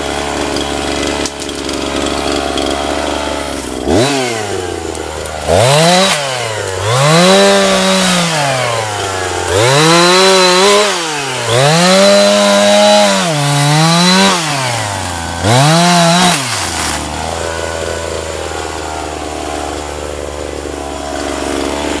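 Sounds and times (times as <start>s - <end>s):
chainsaw revving and idling: 0.0s - 22.0s.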